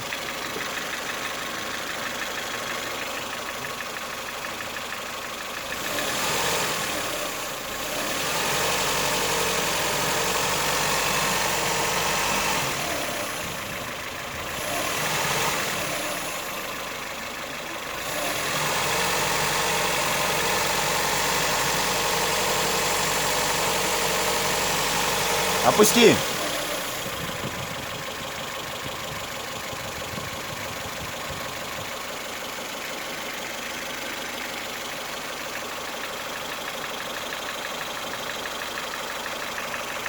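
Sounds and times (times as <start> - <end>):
car engine idling with knock: 0.0 - 40.0.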